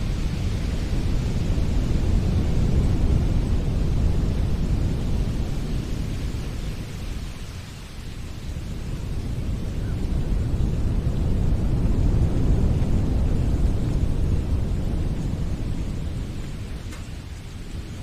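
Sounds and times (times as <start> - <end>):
wind blowing: 0.0 - 18.0.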